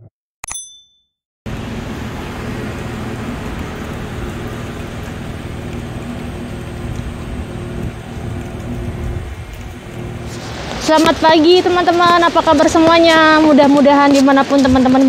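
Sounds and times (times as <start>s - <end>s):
rain: 1.5s - 15.0s
road traffic hum: 1.5s - 15.0s.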